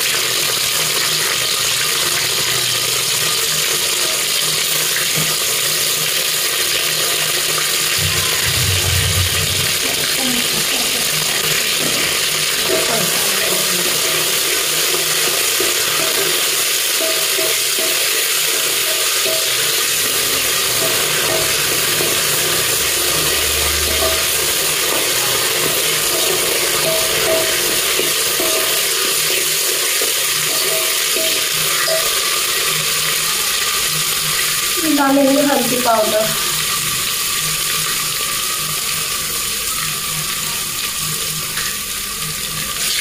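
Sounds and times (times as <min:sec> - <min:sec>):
onions sizzling in oil: 0:00.0 - 0:43.0.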